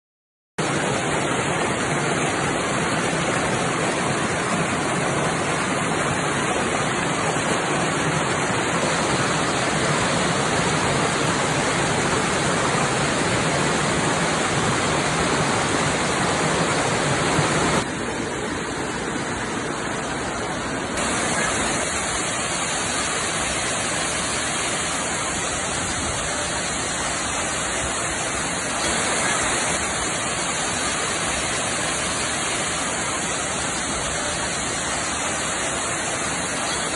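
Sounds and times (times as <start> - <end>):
waterfall rushing: 0.6 - 36.9.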